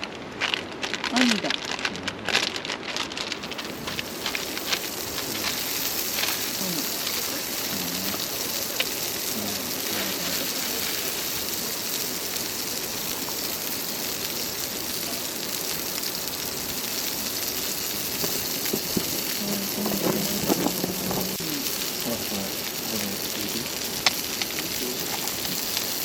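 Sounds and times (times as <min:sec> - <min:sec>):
rice sizzling in a pan: 0:02.4 - 0:26.0.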